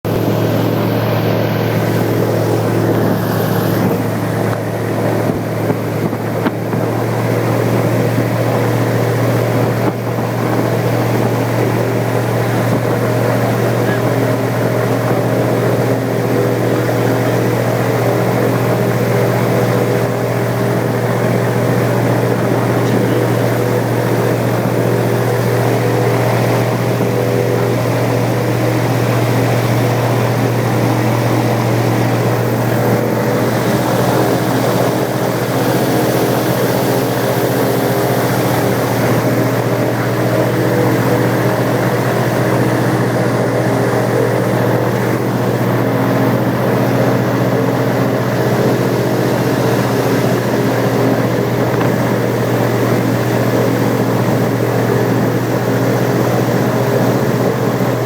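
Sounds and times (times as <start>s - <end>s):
airboat engine and propeller drone: 0.0s - 58.0s.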